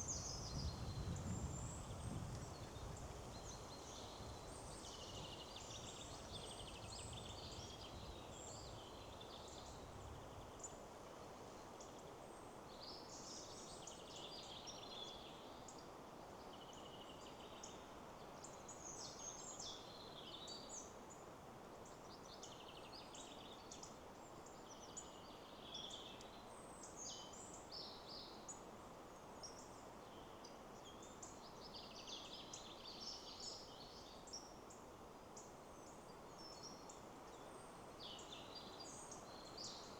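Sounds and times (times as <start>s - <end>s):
faint songbirds singing: 0.0s - 39.9s
wind in trees: 0.0s - 39.9s.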